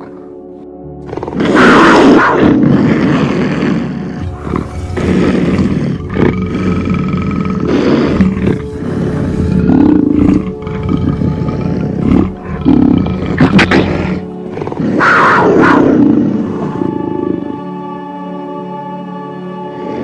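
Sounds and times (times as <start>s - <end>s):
background music with held tones: 0.0s - 20.0s
big cat roaring and growling: 1.0s - 17.8s.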